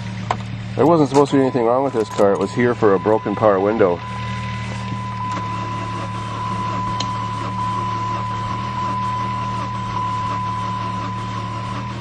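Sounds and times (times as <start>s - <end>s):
engine turning over: 0.0s - 12.0s
thin steady whine: 0.0s - 12.0s.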